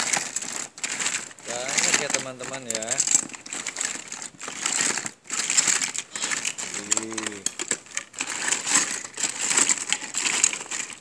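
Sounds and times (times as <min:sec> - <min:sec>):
plastic toys clattering: 0:00.0 - 0:11.0.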